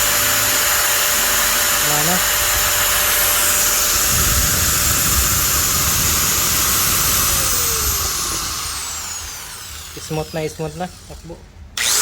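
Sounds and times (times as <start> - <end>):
angle grinder whining: 0.0 - 12.0.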